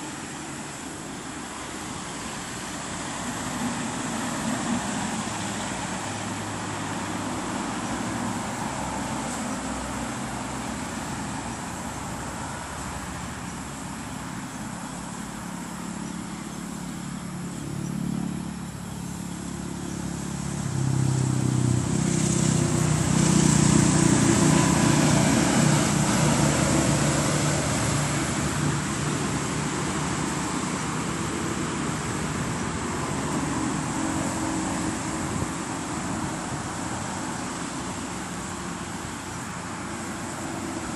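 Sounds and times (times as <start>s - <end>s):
passing vehicle: 0.0s - 40.9s
road traffic engines: 0.0s - 40.9s.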